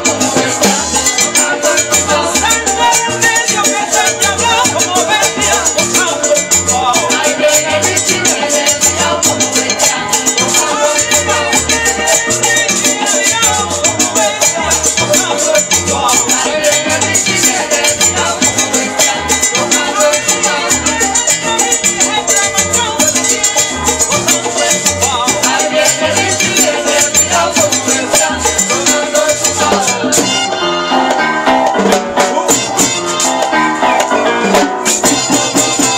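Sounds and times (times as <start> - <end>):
bass line: 0.0 - 35.9
guiro scraped in fast rhythm: 0.0 - 35.9
salsa music: 0.0 - 35.9.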